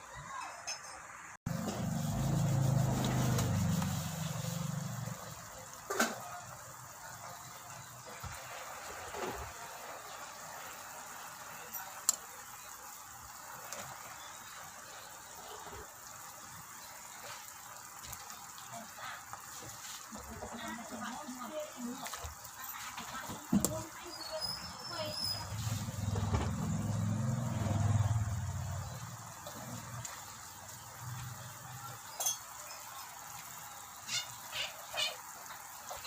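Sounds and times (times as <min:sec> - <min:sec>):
pot hissing: 0:01.5 - 0:36.0.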